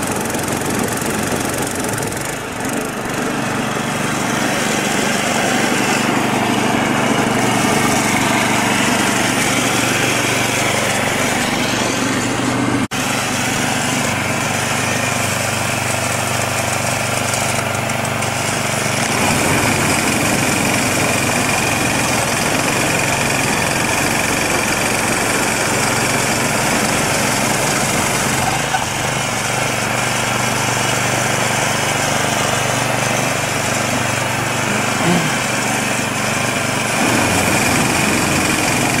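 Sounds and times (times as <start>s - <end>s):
small engine running under load: 0.0s - 39.0s
snow blower throwing snow: 0.0s - 39.0s.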